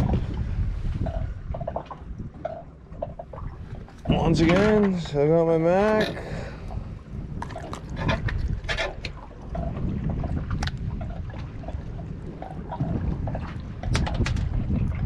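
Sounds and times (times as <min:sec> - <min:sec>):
water lapping against hull: 0:00.0 - 0:15.0
wind buffeting microphone: 0:00.0 - 0:15.0.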